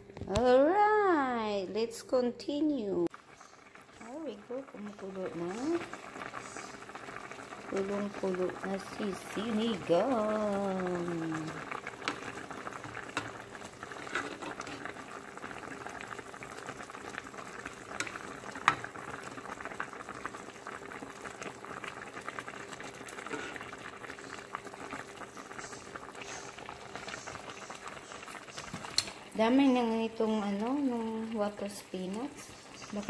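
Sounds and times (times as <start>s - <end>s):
soup bubbling at a boil: 3.1s - 33.0s.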